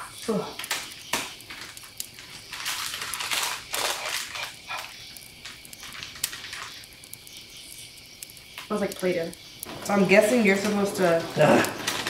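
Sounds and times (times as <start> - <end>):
foil and plastic packaging crinkling: 0.0 - 7.9, 8.6 - 12.0.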